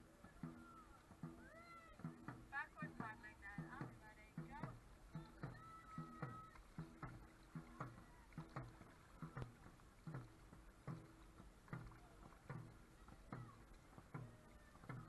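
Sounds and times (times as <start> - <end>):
paddle strokes in water: 0.0 - 15.0.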